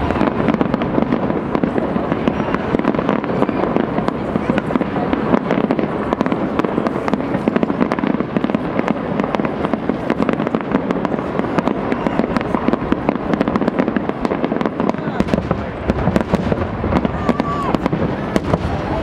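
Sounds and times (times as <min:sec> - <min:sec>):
fireworks barrage crackling: 0:00.0 - 0:19.0.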